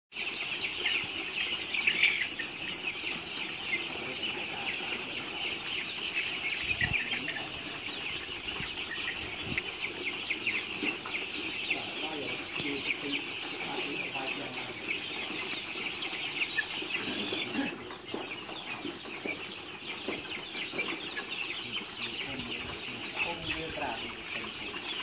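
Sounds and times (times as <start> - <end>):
chicks peeping: 0.1 - 25.0.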